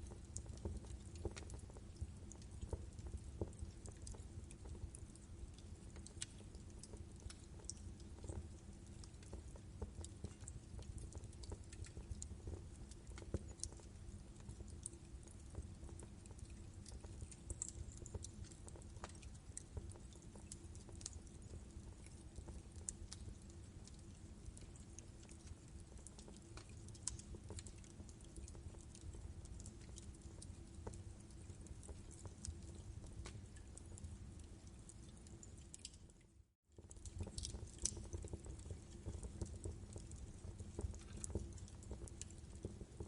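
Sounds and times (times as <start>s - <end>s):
wood fire crackling: 0.0s - 36.1s, 36.8s - 43.0s.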